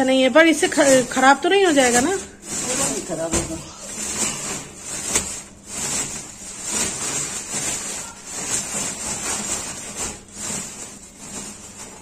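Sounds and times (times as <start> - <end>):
plastic sack rustling: 0.0 - 12.0.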